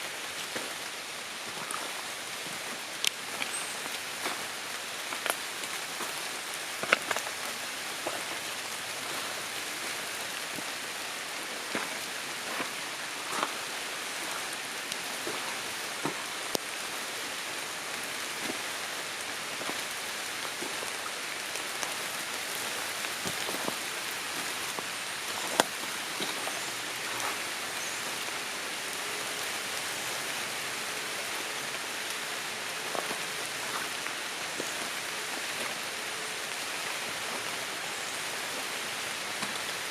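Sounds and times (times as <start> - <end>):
light rain on leaves: 0.0 - 39.9
water drips: 0.2 - 39.9.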